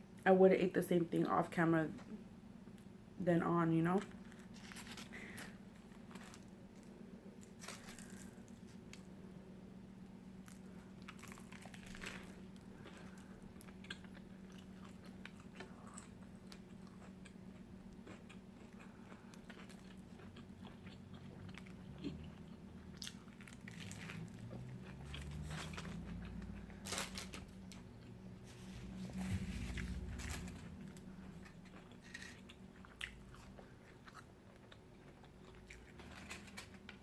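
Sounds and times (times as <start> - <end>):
faint low hum: 0.0 - 37.0
person chewing food: 4.1 - 9.1, 10.4 - 36.9.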